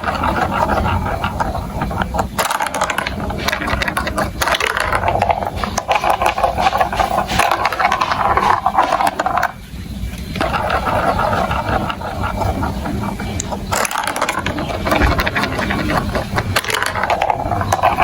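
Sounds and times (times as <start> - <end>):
marbles rattling through plastic run: 0.0 - 9.6, 10.3 - 18.0.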